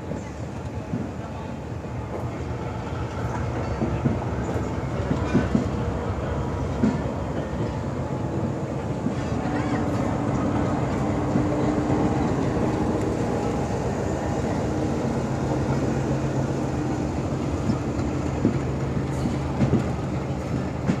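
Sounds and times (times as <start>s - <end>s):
diesel locomotive engine drone: 0.0s - 21.0s
train wheels clicking over rail joints: 2.0s - 21.0s.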